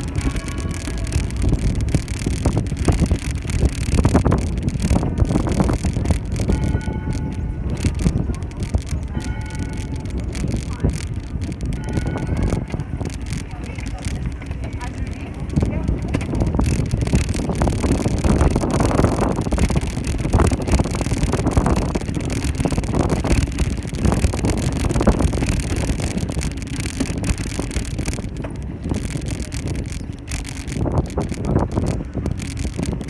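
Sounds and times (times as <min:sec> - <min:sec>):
tyres rumbling on road: 0:00.0 - 0:33.0
wind buffeting microphone: 0:00.0 - 0:33.0.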